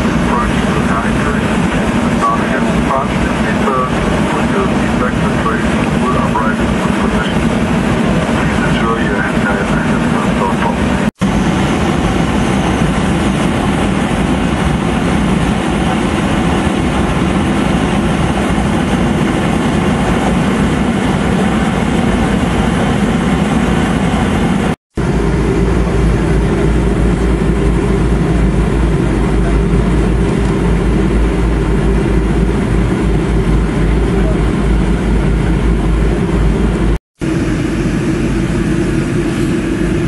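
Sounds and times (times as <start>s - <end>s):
airplane cabin roar: 0.0s - 40.0s.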